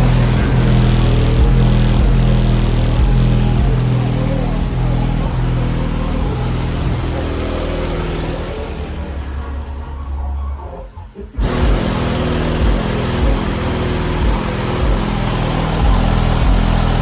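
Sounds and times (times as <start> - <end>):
bass-heavy music through subwoofers: 0.0 - 17.0.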